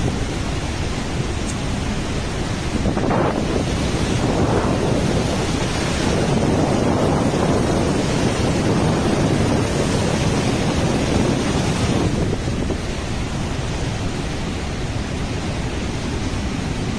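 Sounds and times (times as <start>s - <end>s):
heavy rush of water: 0.0s - 16.9s
wind buffeting microphone: 0.0s - 16.9s.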